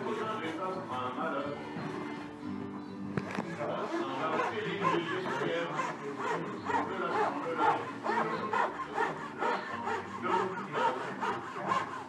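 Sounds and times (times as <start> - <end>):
fret saw sawing veneer: 0.0 - 2.3, 3.4 - 12.0.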